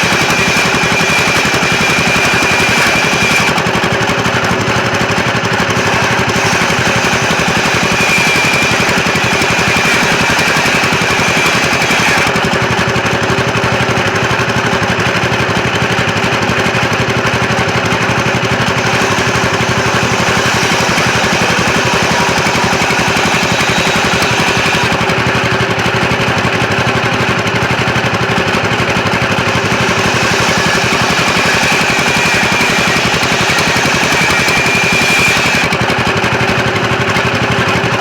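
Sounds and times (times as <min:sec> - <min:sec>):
sawmill machinery rattling: 0:00.0 - 0:38.0.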